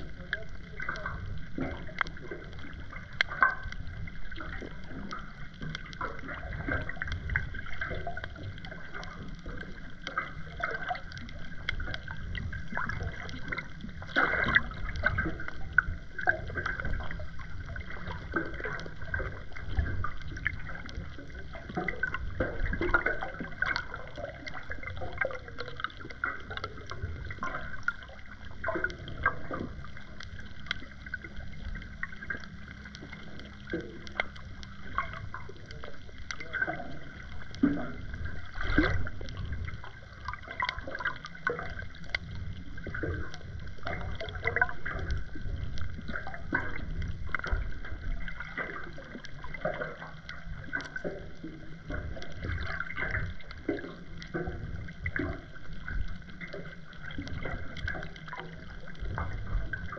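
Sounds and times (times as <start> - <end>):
low rumble: 0.0 - 59.9
muffled underwater rushing water: 0.0 - 59.9
small clicks and crackles: 0.0 - 59.9.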